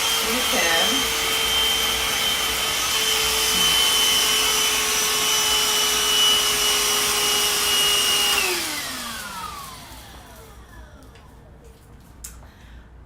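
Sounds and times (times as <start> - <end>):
handheld vacuum running: 0.0 - 11.1
vacuum motor winding down: 0.0 - 11.2.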